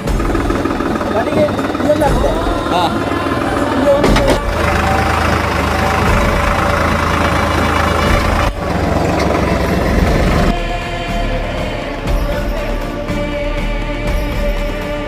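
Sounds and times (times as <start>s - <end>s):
vehicle engine humming: 0.0s - 13.2s.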